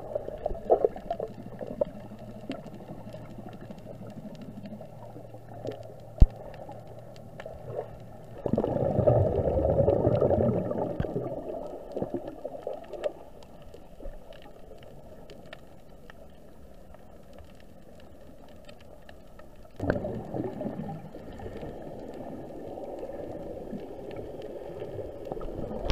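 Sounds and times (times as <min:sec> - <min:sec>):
muffled underwater sloshing: 0:00.0 - 0:25.9.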